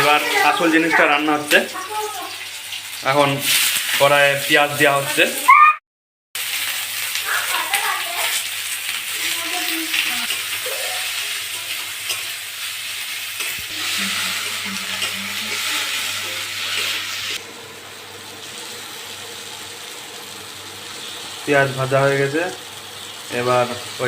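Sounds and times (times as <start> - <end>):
onions sizzling in oil: 0.0 - 5.6, 6.4 - 24.0.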